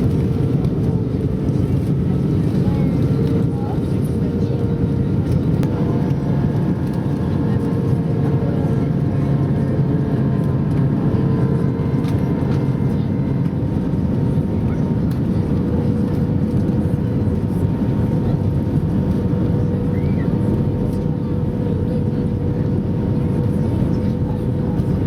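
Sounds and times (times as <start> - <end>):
aircraft engine drone: 0.0 - 25.0.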